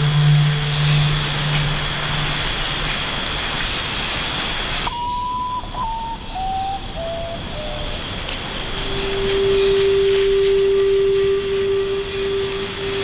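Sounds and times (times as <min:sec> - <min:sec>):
descending clear notes: 0:00.0 - 0:03.5, 0:04.9 - 0:13.0
faint high insect buzz: 0:00.0 - 0:13.0
steady forest hiss: 0:00.0 - 0:13.0.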